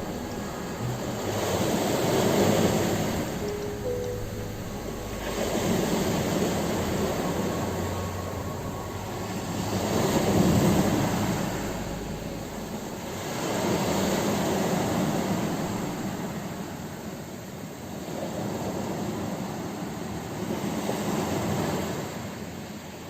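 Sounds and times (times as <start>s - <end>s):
ocean waves breaking on shore: 0.0s - 22.6s.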